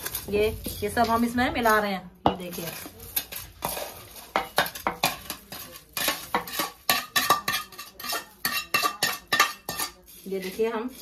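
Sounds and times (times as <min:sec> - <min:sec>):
spoon knocking metal pot: 0:00.0 - 0:10.9.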